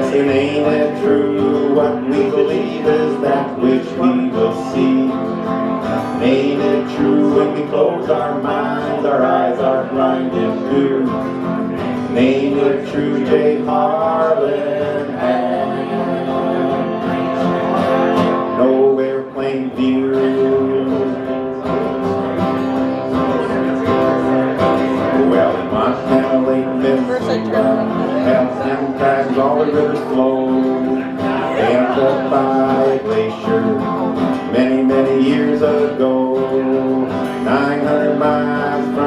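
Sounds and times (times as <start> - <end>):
acoustic guitars strumming: 0.0 - 39.0
man singing: 0.0 - 39.0.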